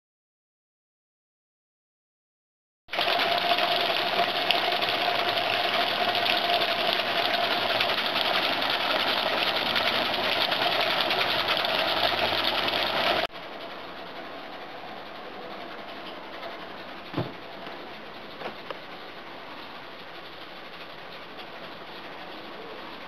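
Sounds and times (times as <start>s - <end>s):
water spraying on fan blades: 2.9s - 23.0s
whirring fan: 2.9s - 23.0s.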